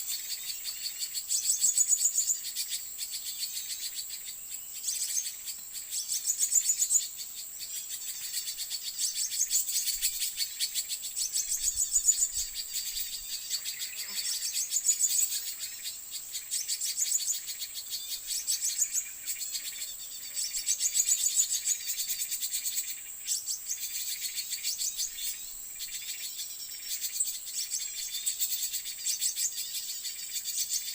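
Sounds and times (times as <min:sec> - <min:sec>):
birds twittering chirps: 0:00.0 - 0:30.9
high insect buzz: 0:00.0 - 0:30.9.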